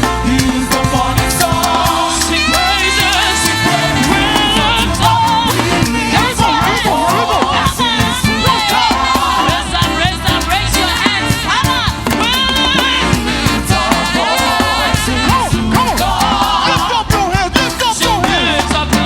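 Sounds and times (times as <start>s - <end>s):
band with driving beat: 0.0s - 19.0s
choir singing: 0.0s - 19.0s.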